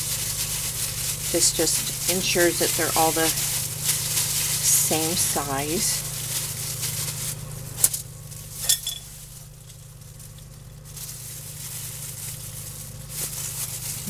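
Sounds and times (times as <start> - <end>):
plastic gloves crinkling: 0.0 - 14.0.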